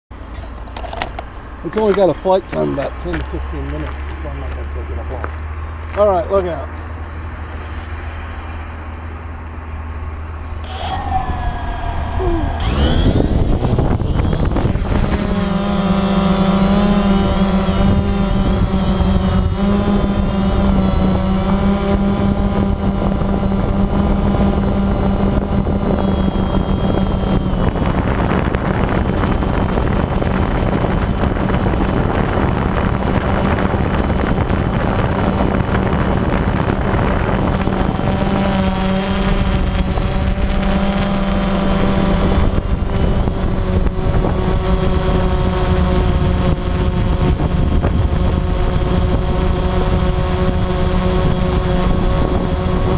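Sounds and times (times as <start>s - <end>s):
drone buzzing hum: 0.1s - 52.9s.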